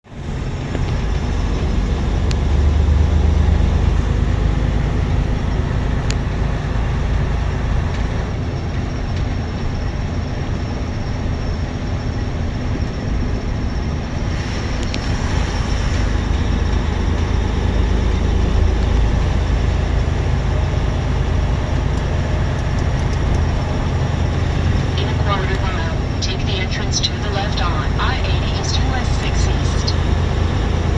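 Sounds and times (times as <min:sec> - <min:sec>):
vehicle engines rumbling: 0:00.0 - 0:30.9.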